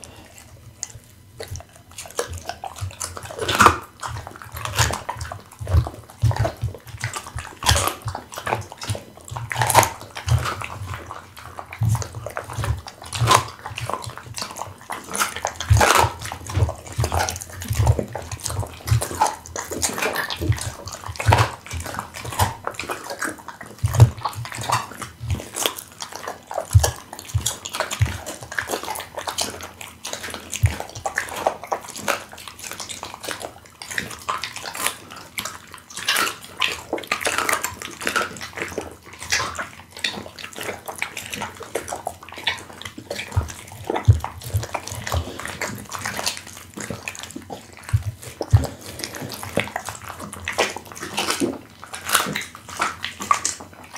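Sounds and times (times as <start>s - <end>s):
dog chewing meat and bone: 0.0s - 53.9s.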